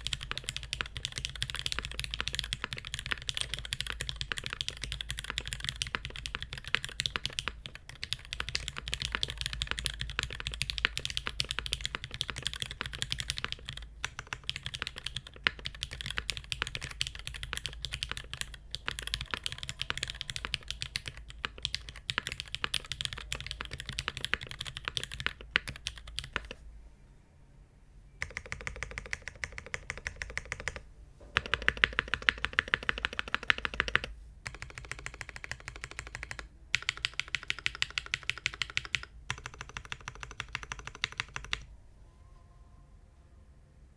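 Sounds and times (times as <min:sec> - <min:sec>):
fast mechanical keyboard typing: 0:00.0 - 0:26.6, 0:28.2 - 0:30.8, 0:31.4 - 0:41.7.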